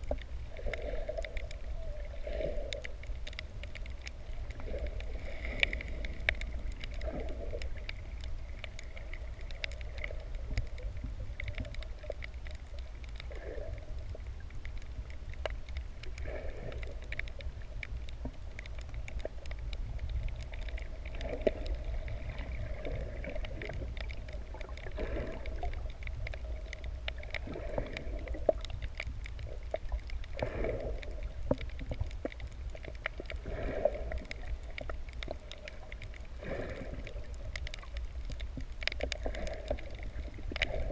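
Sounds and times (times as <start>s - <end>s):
faint underwater clicks: 0.0s - 40.9s
underwater water rumble: 0.0s - 40.9s.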